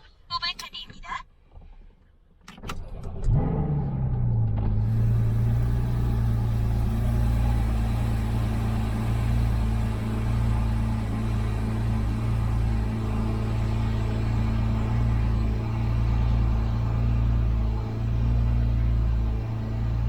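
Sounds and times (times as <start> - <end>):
car engine cold start and idle: 2.5 - 20.0.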